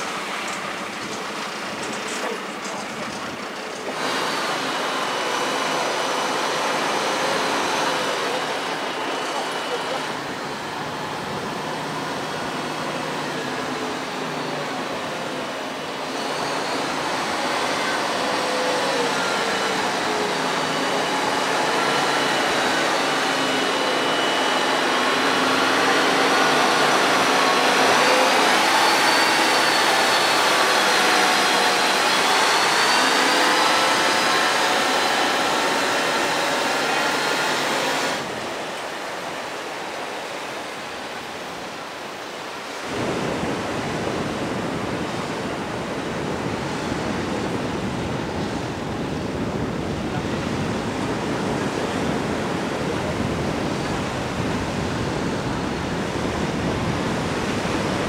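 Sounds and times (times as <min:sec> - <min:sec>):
whining tone: 0:00.0 - 0:58.0.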